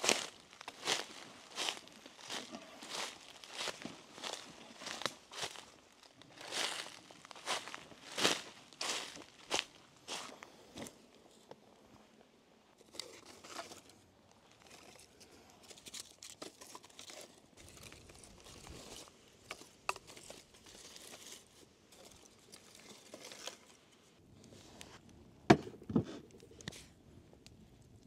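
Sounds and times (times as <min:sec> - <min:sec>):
rustling and crinkling: 0:00.0 - 0:11.6, 0:12.7 - 0:28.0.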